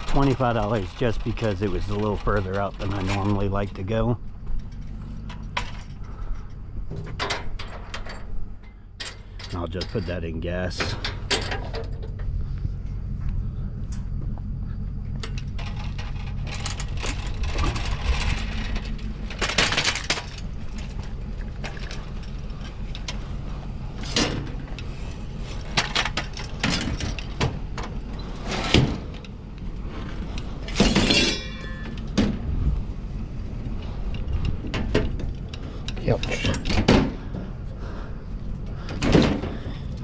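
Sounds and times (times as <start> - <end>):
clanks and knocks: 0.0 - 37.6, 38.6 - 40.0
low engine hum: 0.0 - 40.0.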